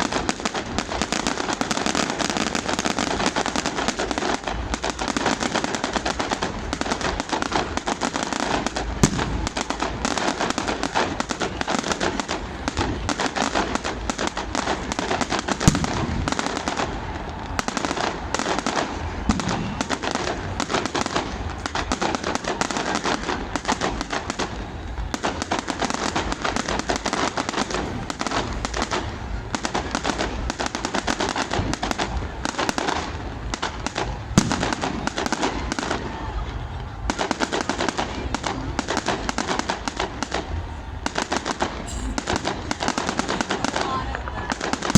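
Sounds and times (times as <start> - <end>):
fireworks popping: 0.0 - 44.9
loud firework bangs: 0.0 - 44.9.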